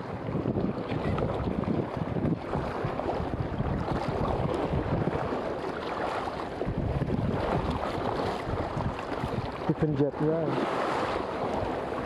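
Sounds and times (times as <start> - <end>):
small waves lapping: 0.0 - 12.0
wind buffeting microphone: 0.0 - 12.0.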